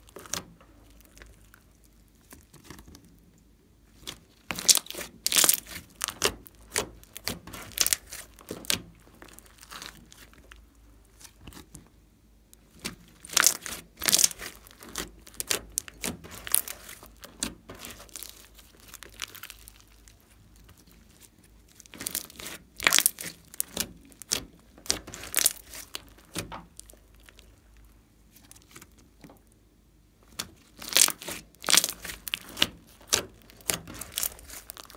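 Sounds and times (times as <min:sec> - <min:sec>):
slime squelching and crackling: 0:00.0 - 0:29.6, 0:30.2 - 0:34.9.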